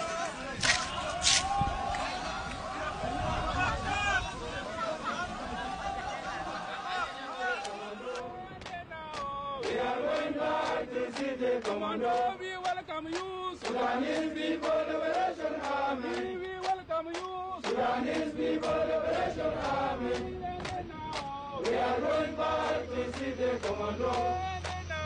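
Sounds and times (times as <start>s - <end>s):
men chanting in unison: 2.2s - 25.0s.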